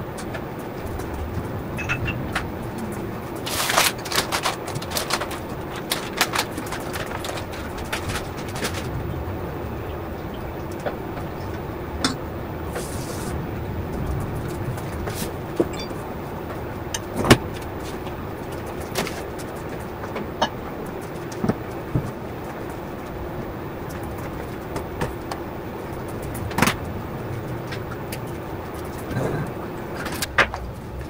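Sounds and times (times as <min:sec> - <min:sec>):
steady background rumble: 0:00.0 - 0:31.0.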